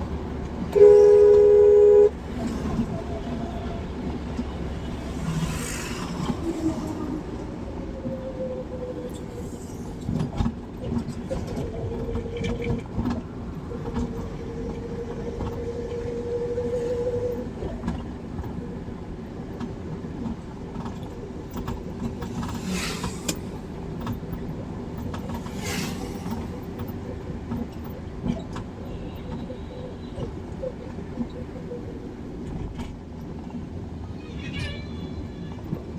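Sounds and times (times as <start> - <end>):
road and engine rumble: 0.0 - 35.9.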